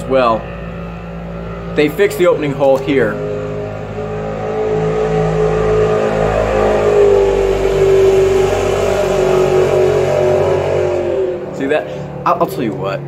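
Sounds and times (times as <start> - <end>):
loud vehicle engine droning: 0.0 - 13.0.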